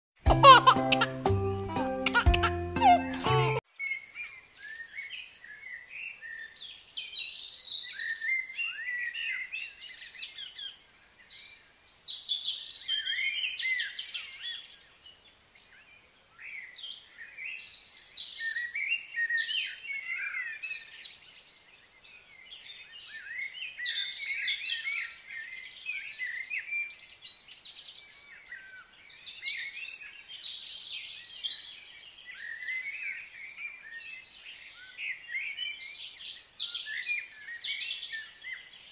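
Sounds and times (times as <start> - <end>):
small birds chirping and twittering: 0.6 - 38.9.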